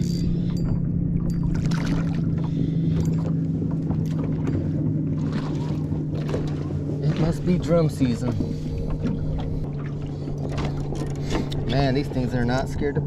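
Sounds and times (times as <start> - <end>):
electric trolling motor humming: 0.0 - 13.0
light clicks and knocks on boat: 0.0 - 13.0.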